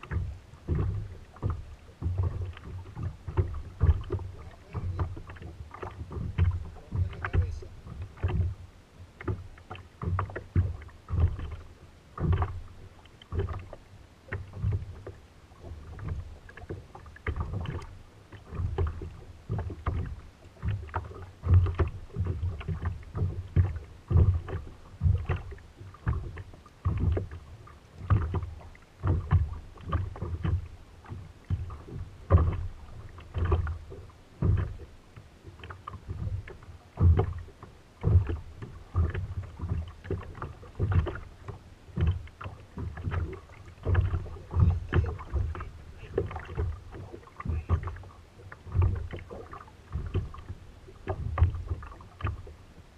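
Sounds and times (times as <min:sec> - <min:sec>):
small waves slapping kayak hull: 0:00.0 - 0:52.9.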